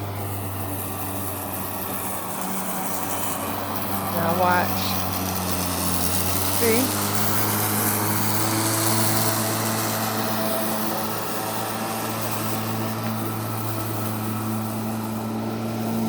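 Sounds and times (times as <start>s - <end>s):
electric lawn mower running: 0.0s - 16.0s.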